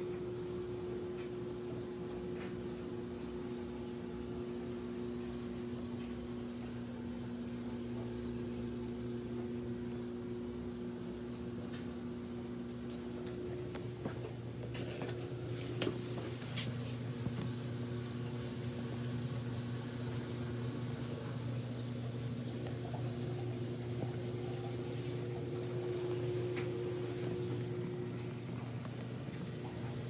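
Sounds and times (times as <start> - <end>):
furnace electric hum: 0.0 - 30.0.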